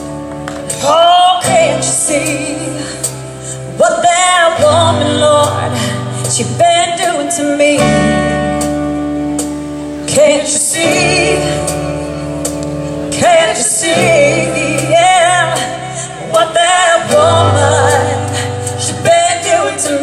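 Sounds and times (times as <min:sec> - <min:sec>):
woman singing into microphone: 0:00.0 - 0:09.0, 0:10.0 - 0:20.0.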